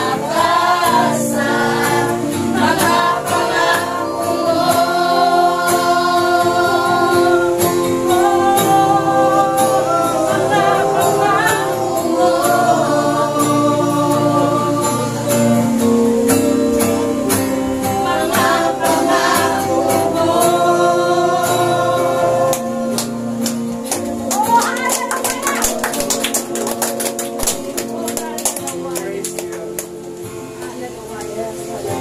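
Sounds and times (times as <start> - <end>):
congregation singing: 0.0 - 32.0
instrumental accompaniment: 0.0 - 32.0.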